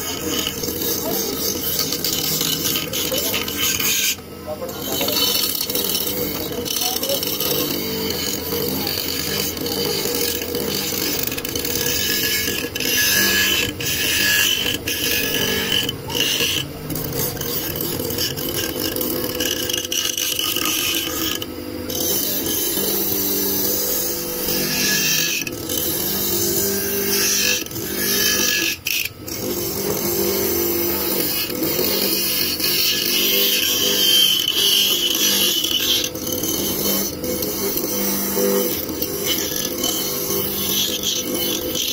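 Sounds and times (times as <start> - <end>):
electric motor hum: 0.0 - 41.9.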